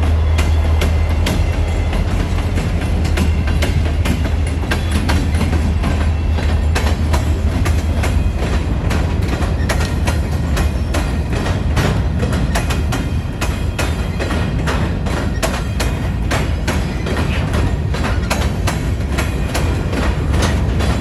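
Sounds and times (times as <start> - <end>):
freight train rumble: 0.0 - 21.0
wheels clacking over rail joints: 0.0 - 21.0.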